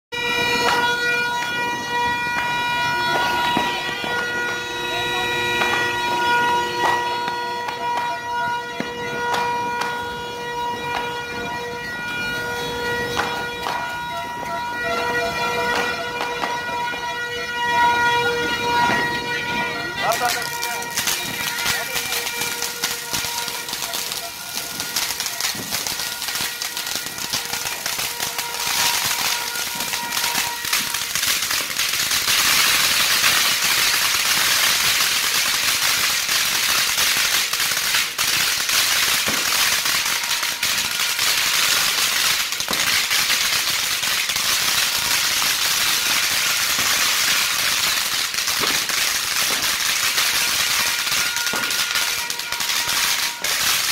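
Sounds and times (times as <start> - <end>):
fountain fireworks crackling: 0.1 - 53.9.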